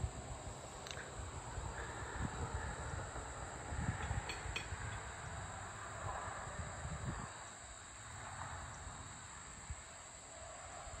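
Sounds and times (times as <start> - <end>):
chorus of field insects: 0.0 - 11.0
wind rumble on microphone: 0.0 - 11.0.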